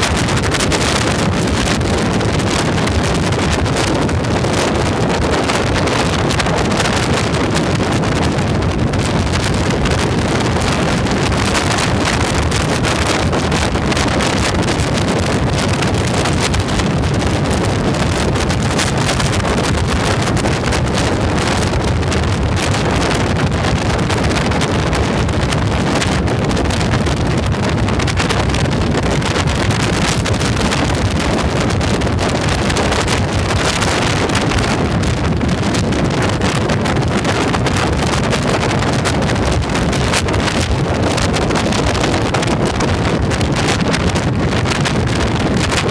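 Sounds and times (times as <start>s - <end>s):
road noise: 0.0s - 45.9s
wind noise on microphone: 0.0s - 45.9s.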